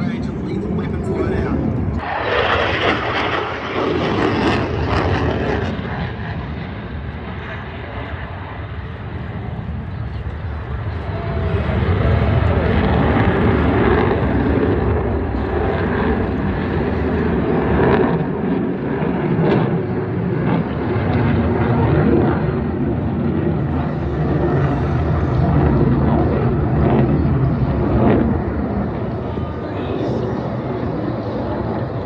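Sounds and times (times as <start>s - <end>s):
aircraft flying over: 0.0s - 32.0s.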